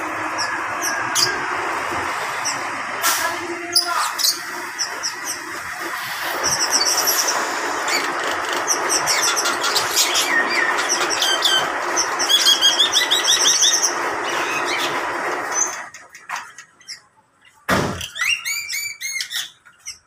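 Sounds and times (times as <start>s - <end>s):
caged birds chirping and chattering: 0.0s - 20.0s.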